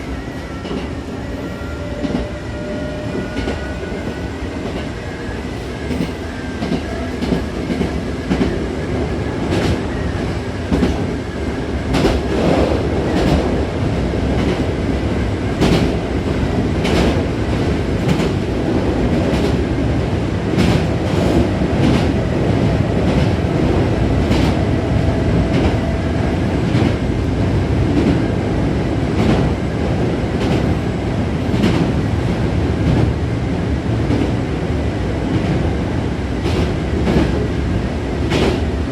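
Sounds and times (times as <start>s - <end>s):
electric train rumbling: 0.0s - 38.9s.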